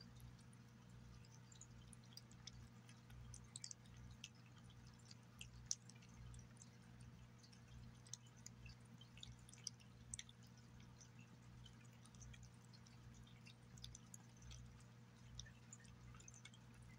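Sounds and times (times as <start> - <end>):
cat chewing wet food: 0.0 - 16.9.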